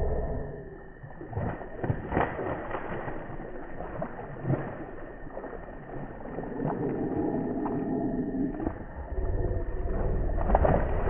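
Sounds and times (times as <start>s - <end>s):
fish thrashing and splashing: 1.0s - 9.0s, 9.8s - 11.0s.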